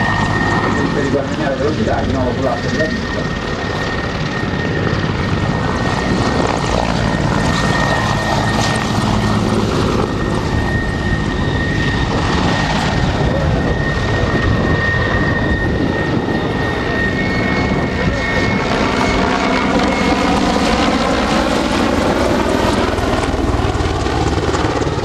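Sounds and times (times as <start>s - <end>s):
helicopter in flight: 0.0s - 25.0s
high turbine whine: 0.0s - 25.0s.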